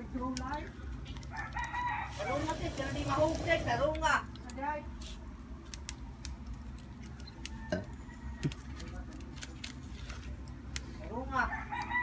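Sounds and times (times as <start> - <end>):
firewood crackling and popping: 0.0 - 12.0
low steady fire hiss: 0.0 - 12.0.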